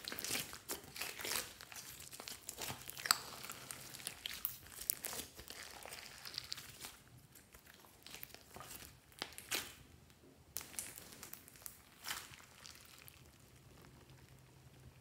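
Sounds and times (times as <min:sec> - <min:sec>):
slime popping and crackling: 0:00.0 - 0:09.8, 0:10.6 - 0:14.3
hands kneading slime: 0:00.0 - 0:14.7.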